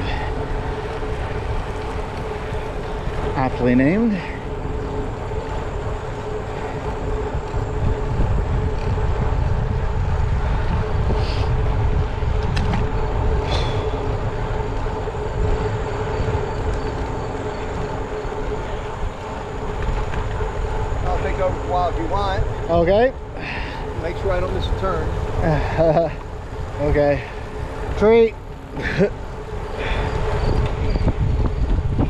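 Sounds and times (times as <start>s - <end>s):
bicycle road noise: 0.0s - 32.0s
steady hum: 0.0s - 32.0s
wind rush on microphone: 0.0s - 32.0s.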